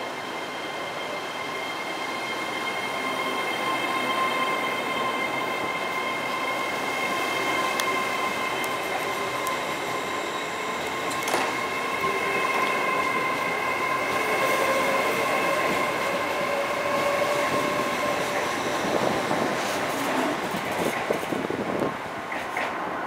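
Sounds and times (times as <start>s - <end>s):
high whine of train drive: 0.0s - 23.0s
train wheel-on-rail rumble: 0.0s - 23.0s.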